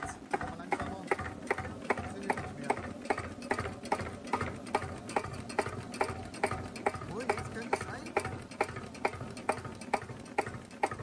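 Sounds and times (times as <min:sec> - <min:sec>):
diesel engine knocking at idle: 0:00.0 - 0:11.0.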